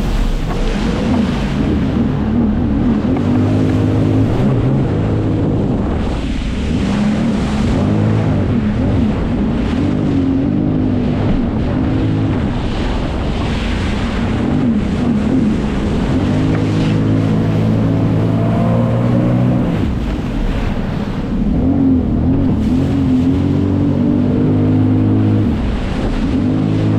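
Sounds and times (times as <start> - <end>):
jet ski engine revving: 0.0 - 26.9
rushing water: 0.0 - 26.9
wind buffeting microphone: 0.0 - 26.9.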